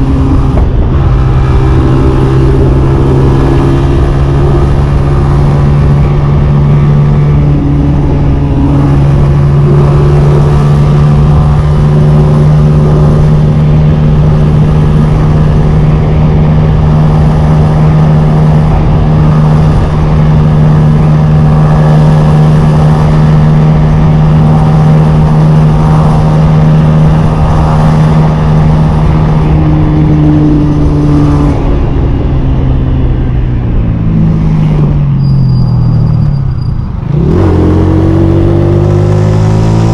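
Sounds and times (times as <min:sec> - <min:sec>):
motorcycle engine running: 0:00.0 - 0:35.1.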